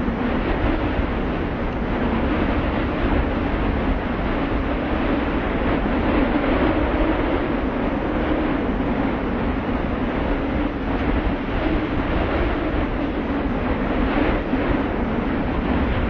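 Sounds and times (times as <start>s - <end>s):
loud wind blowing: 0.0s - 16.0s.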